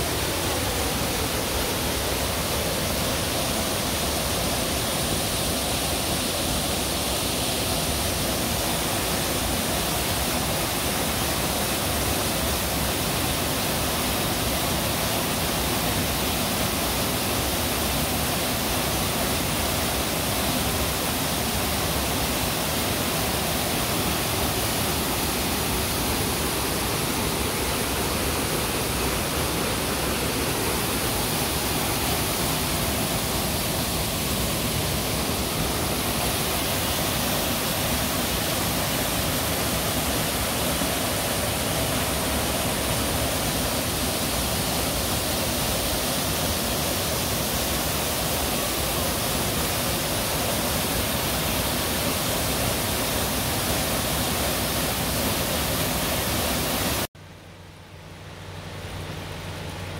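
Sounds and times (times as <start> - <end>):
waterfall spilling into pool: 0.0 - 57.1.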